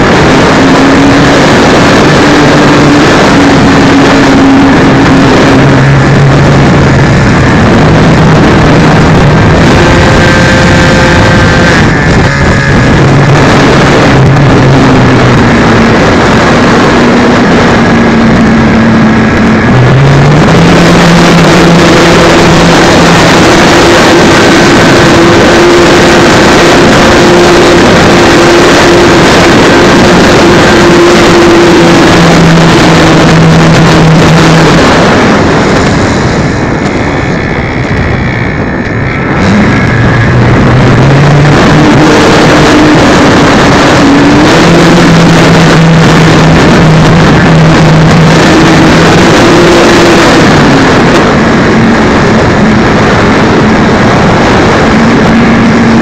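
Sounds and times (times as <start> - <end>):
low hum changing pitch: 0.0 - 56.0
wind rushing over microphone: 0.0 - 56.0.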